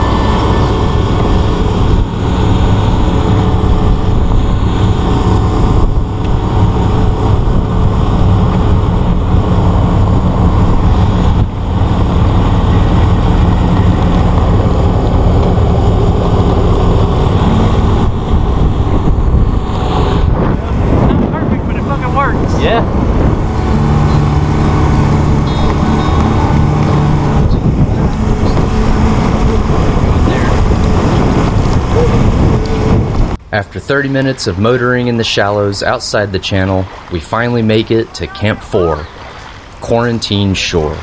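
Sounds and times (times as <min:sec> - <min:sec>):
boat engine humming: 0:00.0 - 0:41.0
water rushing along hull: 0:00.0 - 0:41.0.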